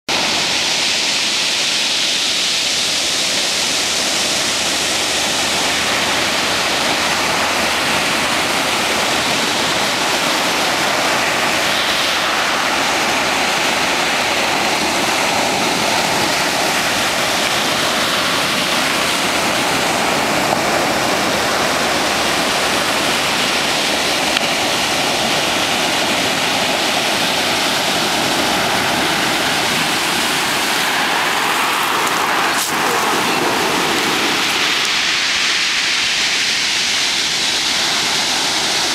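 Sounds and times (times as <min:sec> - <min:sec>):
surf over pebble beach: 0:00.1 - 0:38.9.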